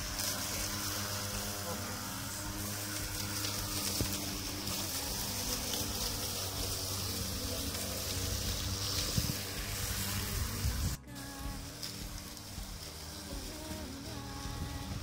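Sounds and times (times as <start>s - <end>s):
blade cutting grass: 0.0s - 15.0s
electric mower motor hum: 0.0s - 15.0s.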